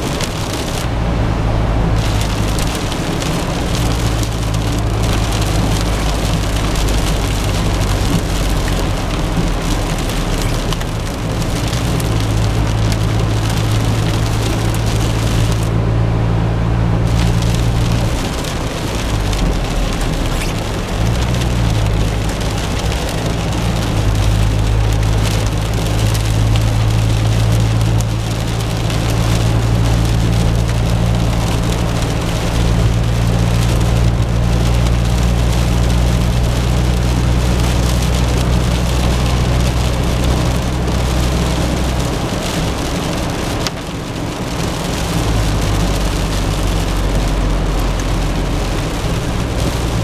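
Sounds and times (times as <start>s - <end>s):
car engine and road hum: 0.0s - 50.0s
rain and tyre spray hiss: 0.0s - 50.0s.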